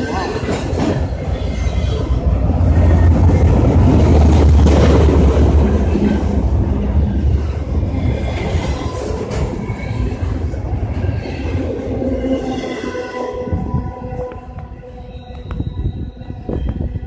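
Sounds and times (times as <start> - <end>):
train rumbling along track: 0.0 - 17.0.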